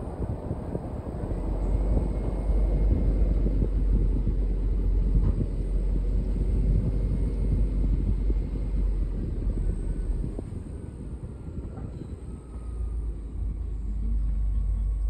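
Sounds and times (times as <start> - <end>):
car tyre and engine rumble: 0.0 - 15.0.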